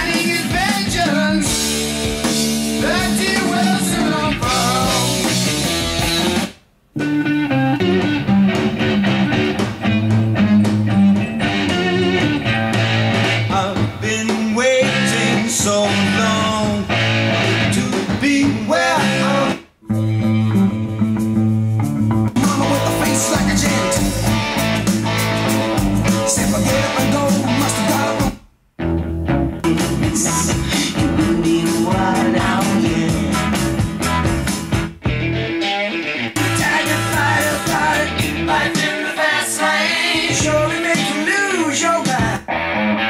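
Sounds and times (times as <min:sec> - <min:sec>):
rock music with guitar and singing: 0:00.0 - 0:43.0.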